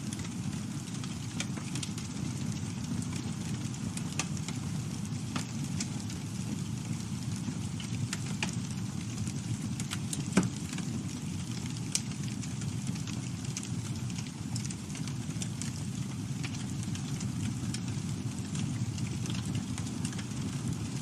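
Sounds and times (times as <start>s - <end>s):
campfire flame rumble: 0.0s - 21.0s
fire crackles and pops: 0.0s - 21.0s.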